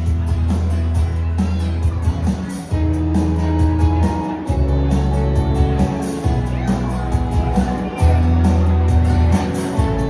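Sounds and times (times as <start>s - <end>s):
bass guitar notes: 0.0s - 10.0s
electric guitar: 0.0s - 10.0s
steady drum beat: 0.0s - 10.0s.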